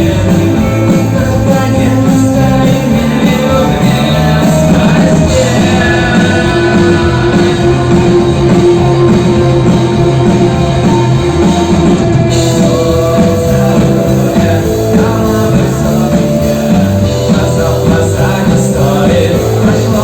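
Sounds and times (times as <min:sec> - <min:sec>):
rock song with singing: 0:00.0 - 0:20.0.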